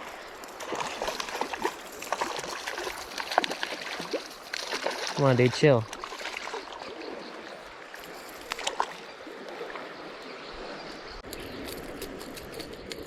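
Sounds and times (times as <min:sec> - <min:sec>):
river water flowing: 0:00.0 - 0:12.7.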